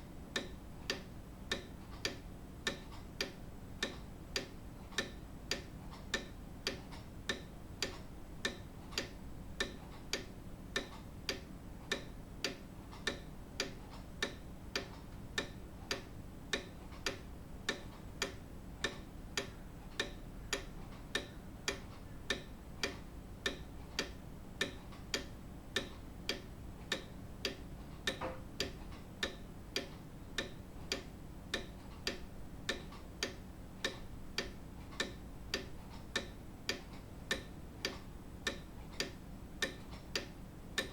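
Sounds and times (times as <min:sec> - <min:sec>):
clock pendulum ticking: 0:00.0 - 0:40.9.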